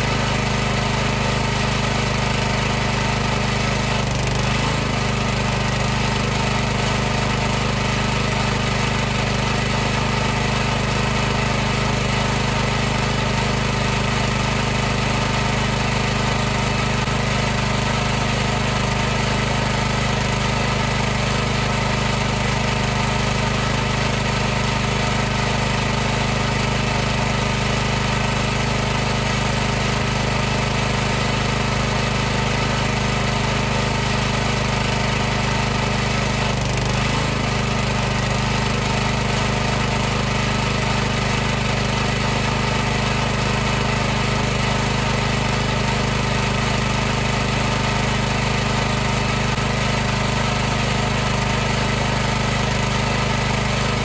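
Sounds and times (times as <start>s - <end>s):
pressure washer running: 0.0s - 54.0s.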